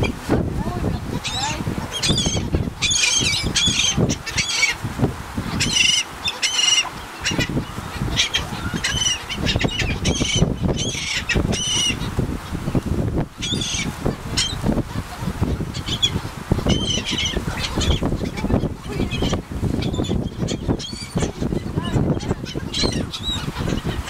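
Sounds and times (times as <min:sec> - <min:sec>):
gulls squawking: 0:00.0 - 0:12.8, 0:13.4 - 0:24.0.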